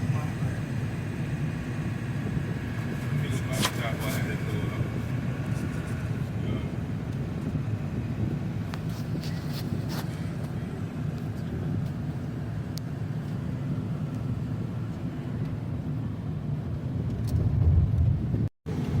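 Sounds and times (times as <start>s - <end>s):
vehicle driving on road: 0.0s - 19.0s.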